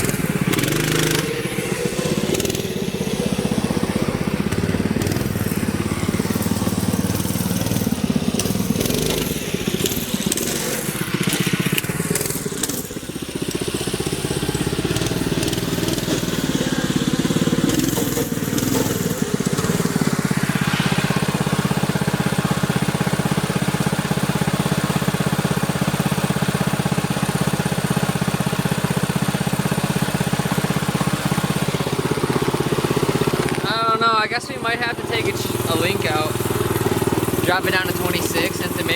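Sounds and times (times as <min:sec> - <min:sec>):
rough noisy clatter: 0:00.0 - 0:38.9
small engine revving and idling: 0:00.0 - 0:38.9.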